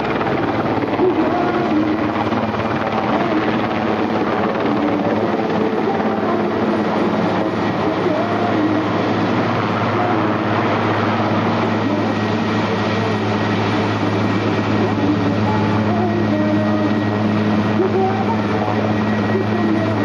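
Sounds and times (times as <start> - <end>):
helicopter rotor and turbine drone: 0.0 - 20.0
low hum: 0.0 - 20.0.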